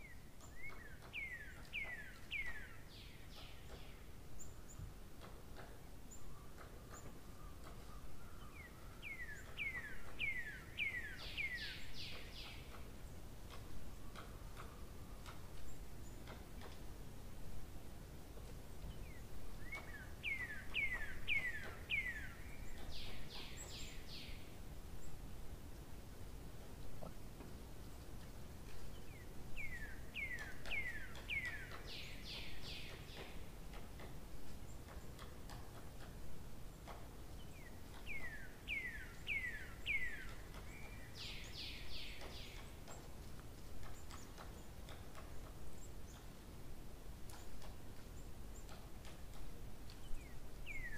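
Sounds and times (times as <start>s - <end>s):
birds calling: 0.0s - 17.0s, 18.4s - 25.4s, 26.5s - 46.4s, 47.2s - 50.9s
low steady background noise: 0.0s - 50.9s
songbird singing: 0.0s - 50.9s.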